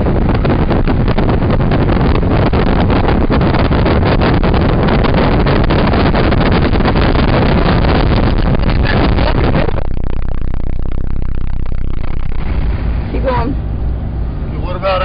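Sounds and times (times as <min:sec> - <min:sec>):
road and wind rush in truck cabin: 0:00.0 - 0:15.0.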